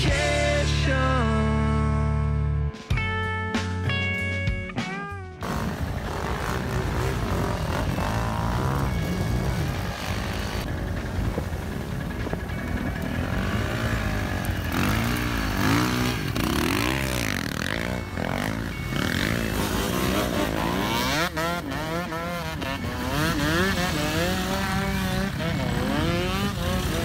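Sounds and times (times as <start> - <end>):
motorcycles and quad bikes revving: 0.0 - 2.8, 5.4 - 27.0.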